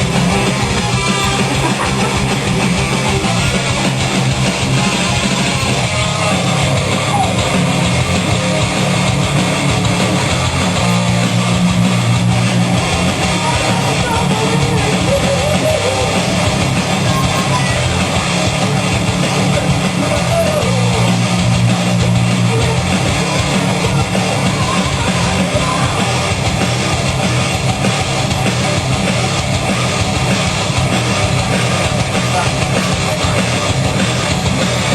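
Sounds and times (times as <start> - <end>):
heavy metal guitar riff: 0.0 - 34.9.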